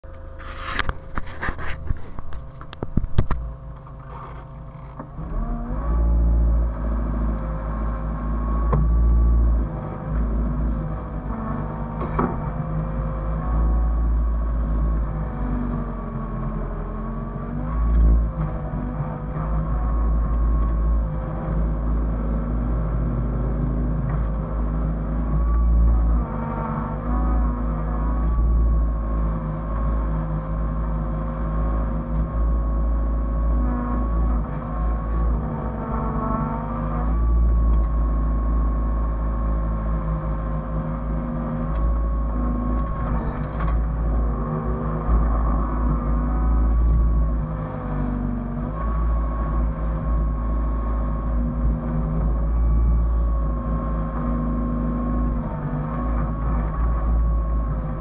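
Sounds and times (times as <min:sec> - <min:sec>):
excavator diesel engine rumbling: 0:00.0 - 0:58.0
steady whine: 0:00.0 - 0:58.0.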